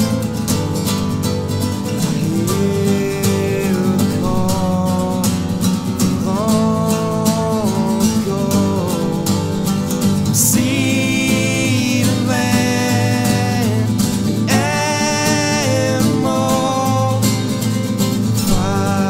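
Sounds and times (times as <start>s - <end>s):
acoustic guitars strummed and picked: 0.0s - 19.0s
man singing long held notes: 2.0s - 19.0s.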